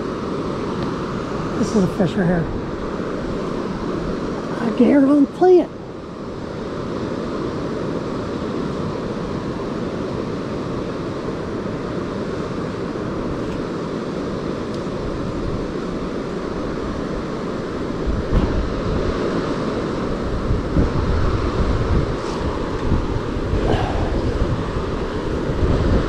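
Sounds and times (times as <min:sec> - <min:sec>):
river water rushing: 0:00.0 - 0:26.0
wind buffeting microphone: 0:00.0 - 0:26.0.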